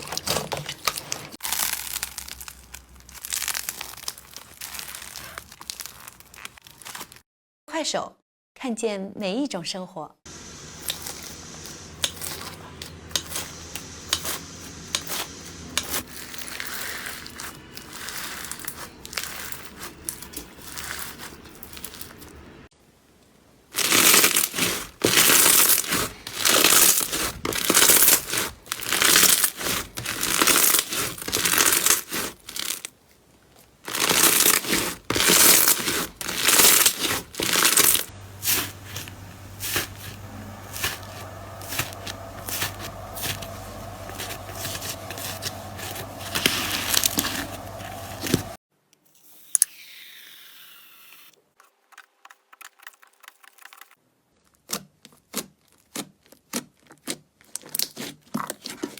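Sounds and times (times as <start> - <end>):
slime crackling and crunching: 0.0 - 7.2, 10.8 - 22.4, 23.7 - 48.6, 54.5 - 58.9.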